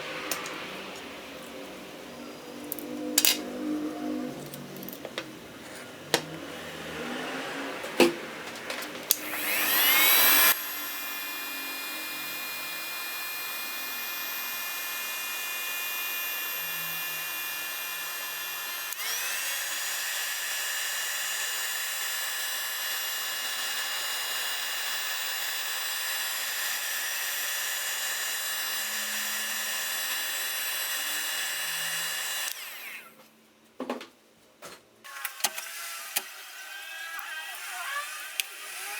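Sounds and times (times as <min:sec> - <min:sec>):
small electric motor tool whining: 0:00.1 - 0:33.3, 0:35.0 - 0:38.9.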